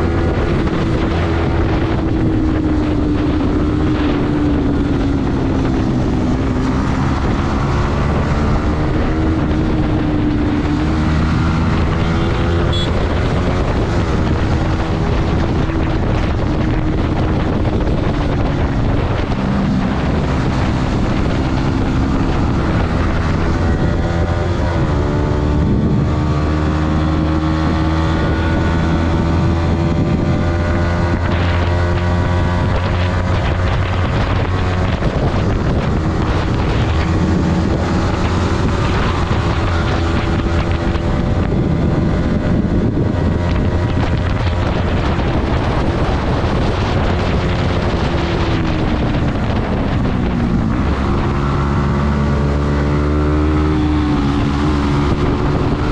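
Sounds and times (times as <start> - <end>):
motorcycle engine running: 0.0 - 55.9
wind on microphone: 0.0 - 55.9.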